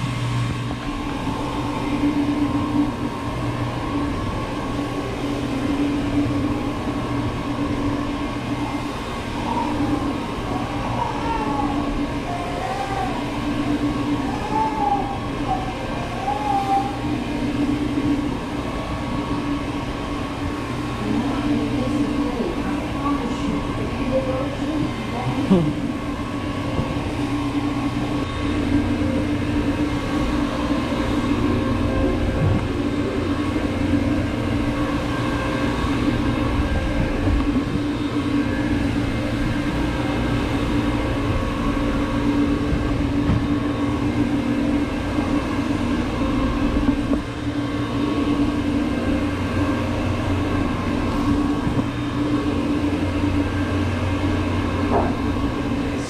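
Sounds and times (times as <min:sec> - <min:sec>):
carpet brush machine droning: 0:00.0 - 0:56.0.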